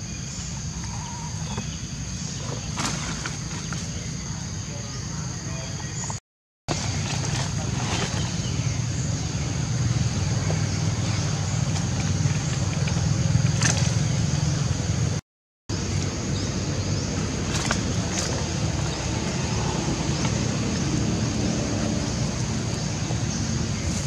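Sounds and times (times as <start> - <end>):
low outdoor rumble: 0.3 - 24.0.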